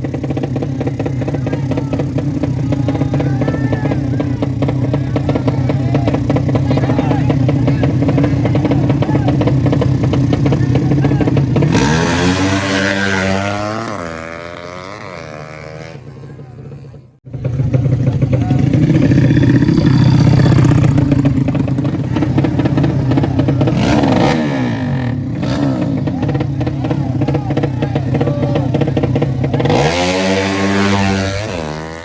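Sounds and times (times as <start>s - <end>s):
motorcycle engines at full throttle: 0.0s - 32.0s.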